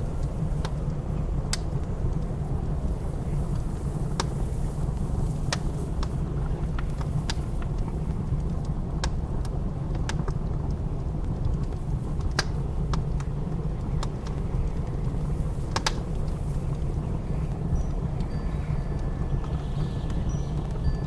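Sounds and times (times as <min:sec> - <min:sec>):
blizzard wind rumbling: 0:00.0 - 0:21.0
wood fire crackling and popping: 0:00.0 - 0:21.0.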